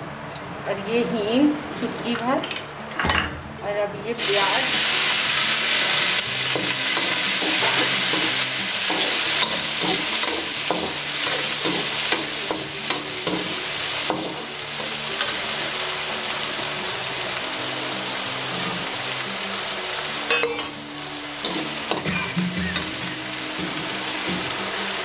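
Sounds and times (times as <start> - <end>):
onions sizzling in oil: 4.2 - 25.0.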